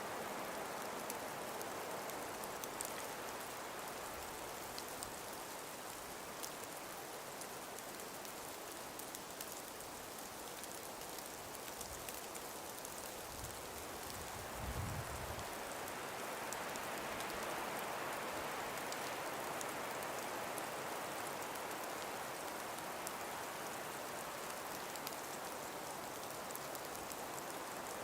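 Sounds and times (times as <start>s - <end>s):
soft wind through forest: 0.0s - 28.0s
faint ticks: 0.4s - 28.0s.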